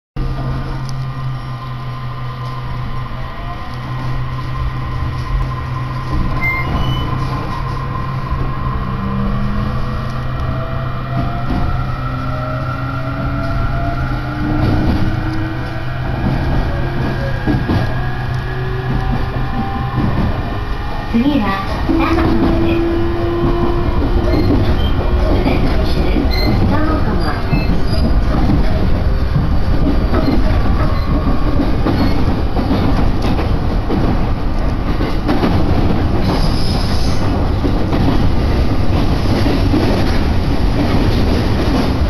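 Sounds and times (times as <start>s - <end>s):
train running on track: 0.2s - 42.0s.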